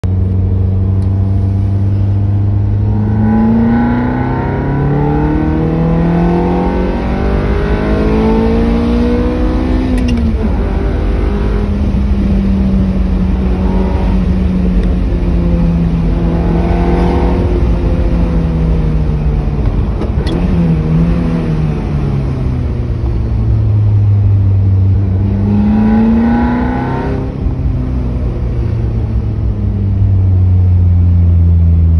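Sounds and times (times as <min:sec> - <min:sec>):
car engine accelerating hard: 0:00.1 - 0:31.9.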